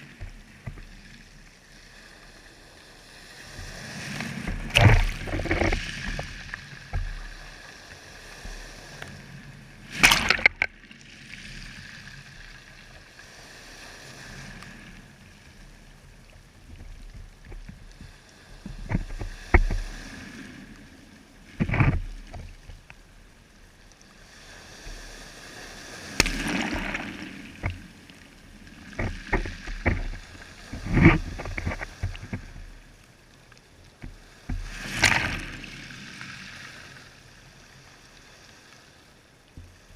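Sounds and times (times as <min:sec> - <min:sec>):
steady water wash: 0:00.0 - 0:39.9
water splashing and sloshing: 0:00.0 - 0:39.9.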